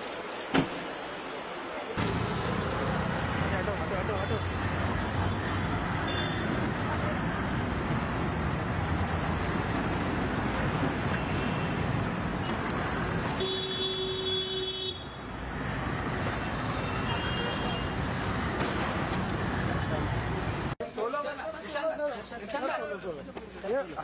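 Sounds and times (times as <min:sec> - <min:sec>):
street traffic hum: 0:00.0 - 0:24.0.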